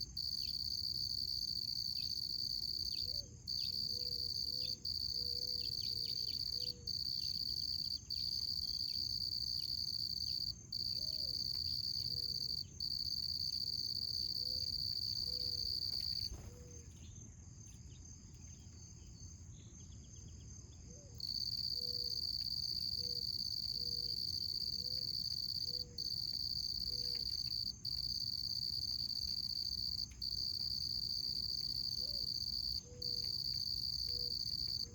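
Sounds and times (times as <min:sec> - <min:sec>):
crickets trilling: 0:00.0 - 0:17.0, 0:21.2 - 0:34.9.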